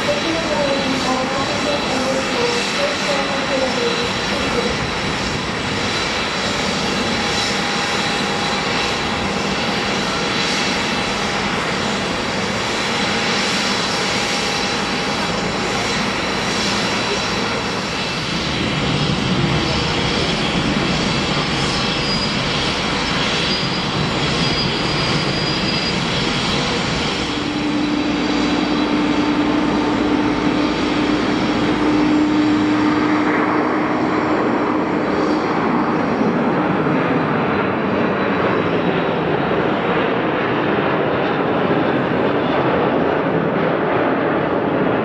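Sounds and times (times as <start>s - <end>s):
jet engines at takeoff power: 0.0s - 45.0s.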